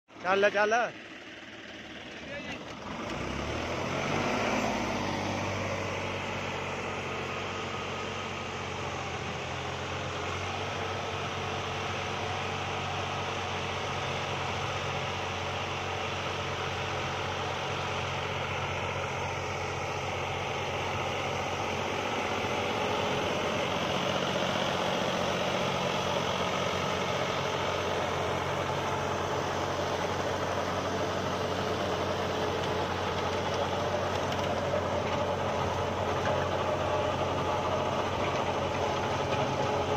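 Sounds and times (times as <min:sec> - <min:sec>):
tractor engine running: 0:00.1 - 0:39.9.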